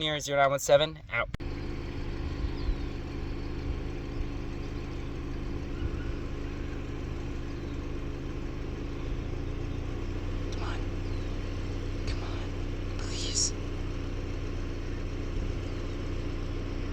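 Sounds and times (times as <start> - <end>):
engine idling: 0.0 - 16.9.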